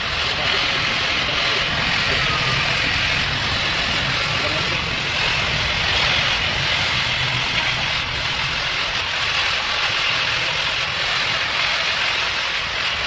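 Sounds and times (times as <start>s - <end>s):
welding torch flame hissing: 0.0s - 13.0s.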